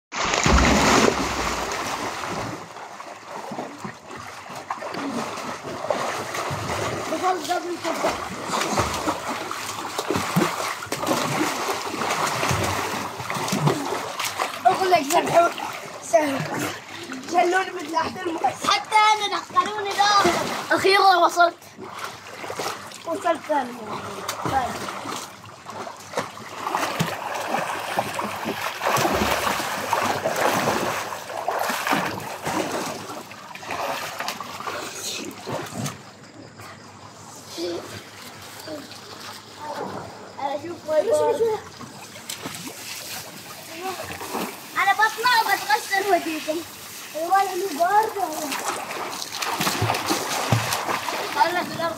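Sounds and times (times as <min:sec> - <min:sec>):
children splashing in pool: 0:00.1 - 0:36.1, 0:37.6 - 0:51.9.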